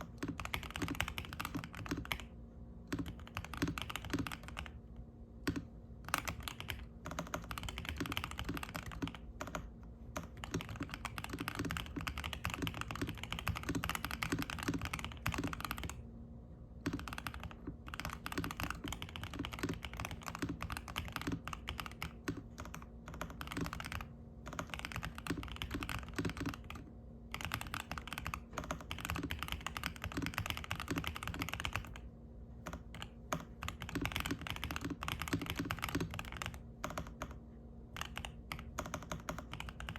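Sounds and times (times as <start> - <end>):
mechanical keyboard typing: 0.0 - 2.3, 2.9 - 4.8, 5.4 - 16.0, 16.8 - 32.0, 32.6 - 37.4, 38.0 - 39.9
faint low hum: 0.0 - 39.9.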